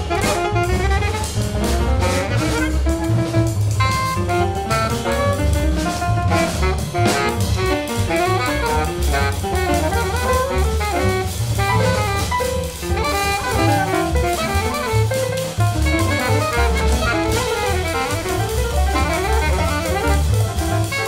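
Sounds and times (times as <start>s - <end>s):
alto saxophone: 0.0s - 21.0s
double bass: 0.0s - 21.0s
drum kit with cymbals: 0.0s - 21.0s
piano: 0.0s - 21.0s.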